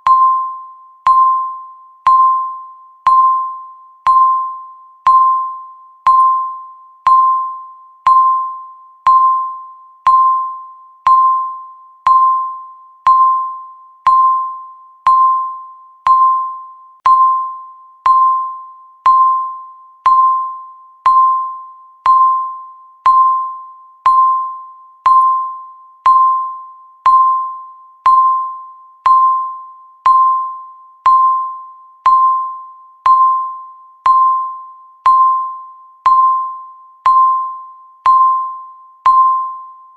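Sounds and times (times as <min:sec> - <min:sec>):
countdown timer beeps: 0:00.0 - 0:39.9.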